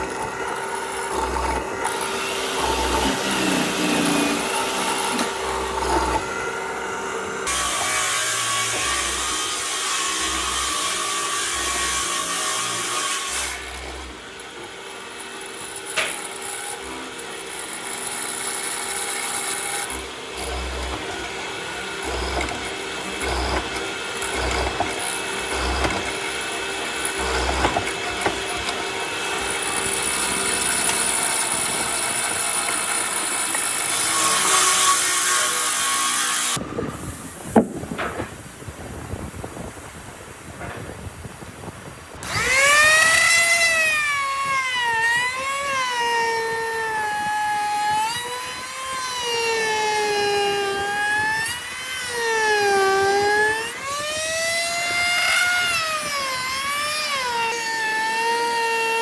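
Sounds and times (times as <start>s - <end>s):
power tools working wood: 0.0s - 38.4s, 42.2s - 59.0s.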